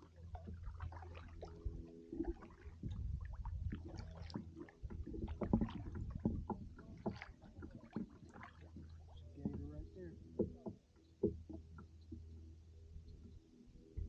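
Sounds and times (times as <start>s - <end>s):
paddle splashes: 0.0s - 12.4s
paddle knocking on plastic hull: 0.0s - 12.5s.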